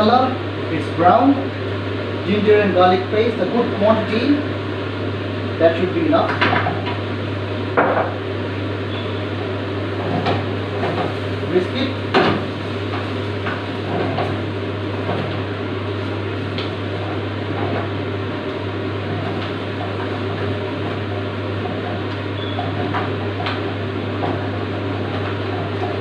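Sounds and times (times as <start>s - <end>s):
gas burner hum: 0.0s - 26.0s.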